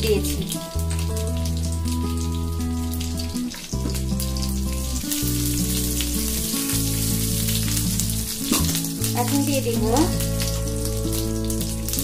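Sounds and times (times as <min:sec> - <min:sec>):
garlic sizzling in hot oil: 0:00.0 - 0:12.0
music of long low notes: 0:00.0 - 0:12.0.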